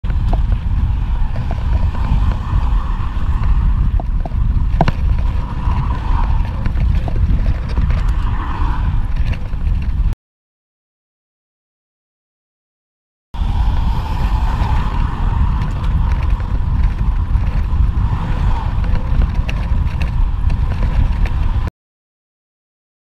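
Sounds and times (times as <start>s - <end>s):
road noise: 0.0s - 10.2s, 13.4s - 21.7s
wind buffeting microphone: 0.0s - 10.2s, 13.4s - 21.7s.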